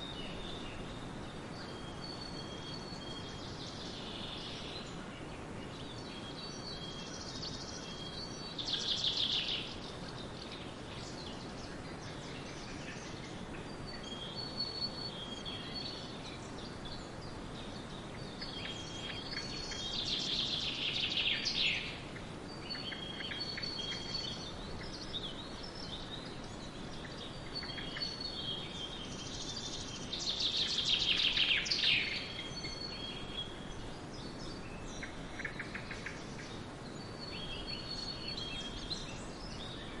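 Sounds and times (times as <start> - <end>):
birds chirping and trilling: 0.0 - 40.0
outdoor background noise: 0.0 - 40.0.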